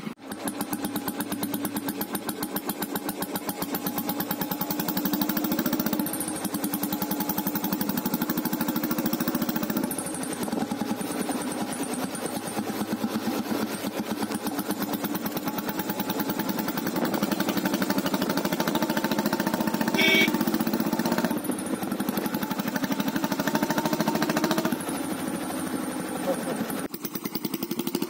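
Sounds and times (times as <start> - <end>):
motorcycle engine exhaust beat: 0.1 - 28.0.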